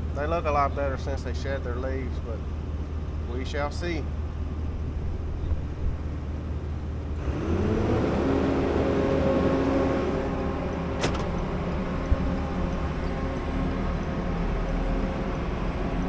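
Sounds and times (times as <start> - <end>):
combine engine drone: 0.0 - 16.0.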